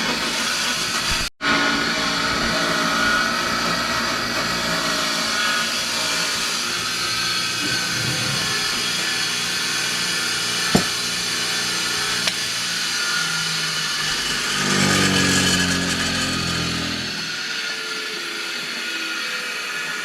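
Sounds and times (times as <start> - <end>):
electric wire wheel brushing metal: 1.5 - 17.7.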